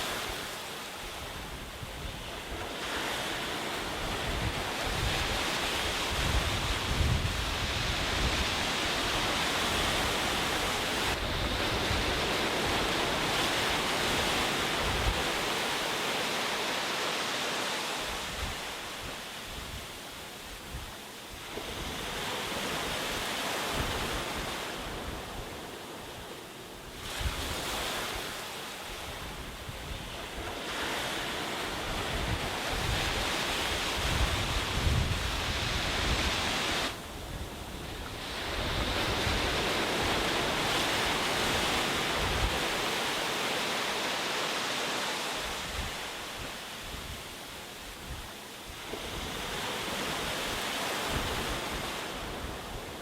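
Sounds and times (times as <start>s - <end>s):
sea waves washing onto beach: 0.0s - 53.0s.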